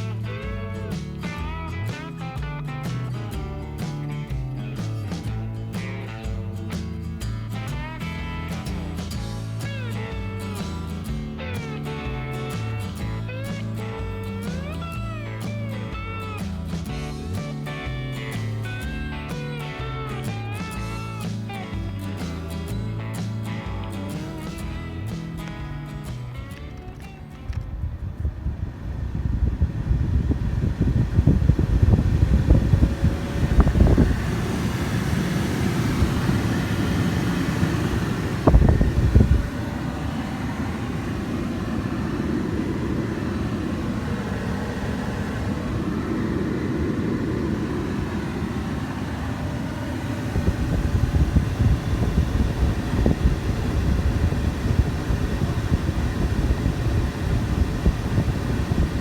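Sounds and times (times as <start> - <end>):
blower fan running: 0.0 - 59.0
wind buffeting microphone: 0.0 - 59.0.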